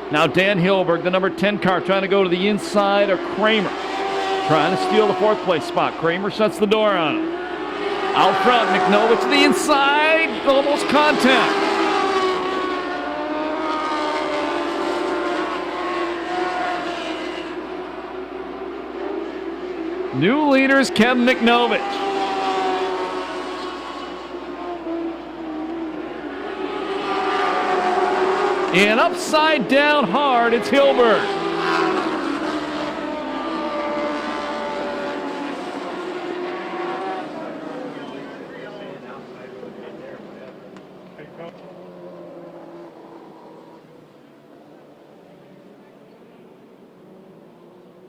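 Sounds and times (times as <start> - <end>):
race car engines at high revs: 0.0 - 48.0.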